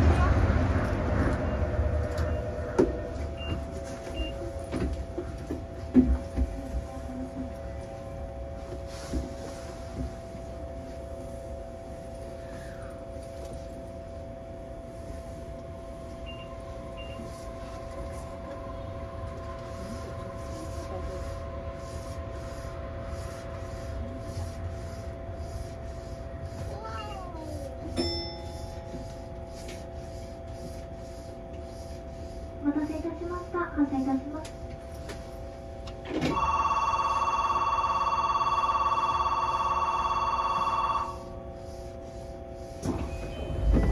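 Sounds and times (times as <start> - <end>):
train equipment hum: 0.0 - 43.9.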